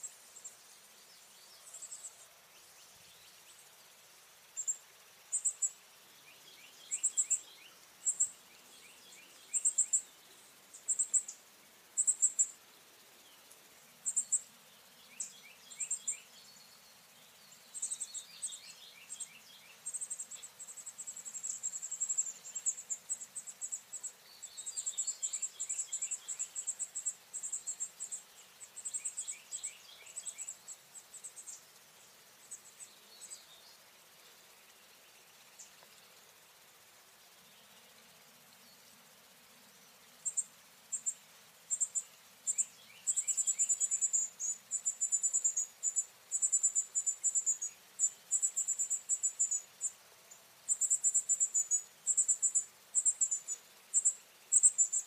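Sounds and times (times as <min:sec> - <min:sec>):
faint lower chirping: 0:00.0 - 0:55.0.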